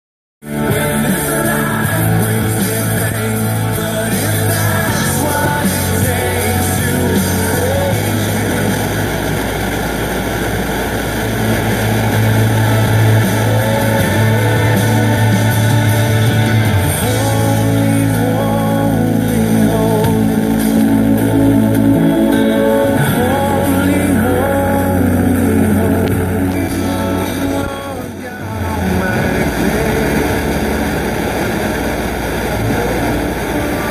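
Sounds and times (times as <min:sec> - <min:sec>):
music with singing from radio: 0:00.4 - 0:33.9.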